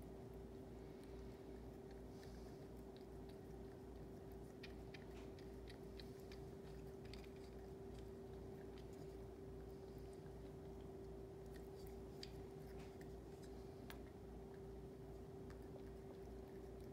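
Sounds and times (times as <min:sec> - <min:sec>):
cat licking: 0:00.0 - 0:16.9
steady low hum: 0:00.0 - 0:16.9.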